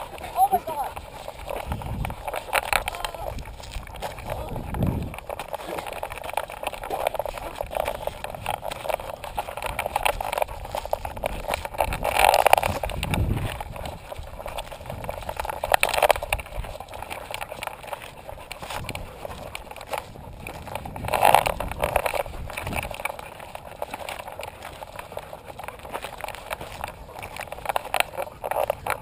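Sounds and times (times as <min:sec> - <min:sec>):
camera rubbing and knocking: 0:00.0 - 0:29.0
scuffs on dirt trail: 0:00.0 - 0:29.0.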